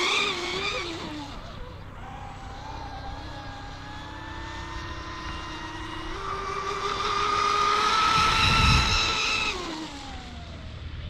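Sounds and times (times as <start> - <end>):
model boat motor whining: 0.0 - 11.0.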